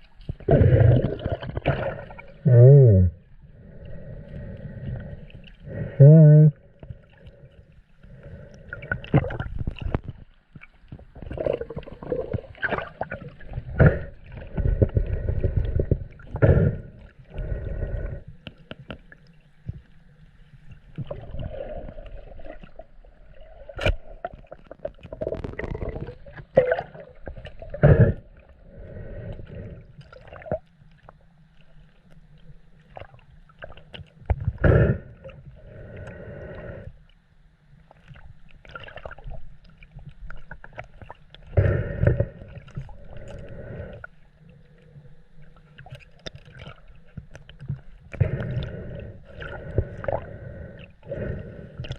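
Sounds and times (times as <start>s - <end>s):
seawater sloshing and gurgling: 0.0s - 2.5s, 3.1s - 18.3s, 20.5s - 35.8s, 37.8s - 51.9s.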